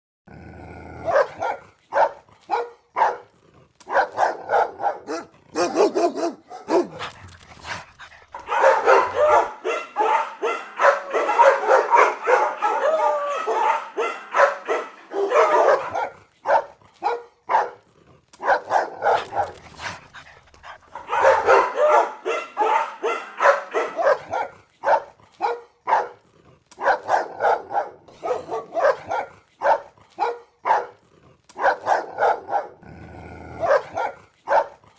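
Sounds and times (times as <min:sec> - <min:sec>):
dogs barking angrily: 0:01.0 - 0:34.9.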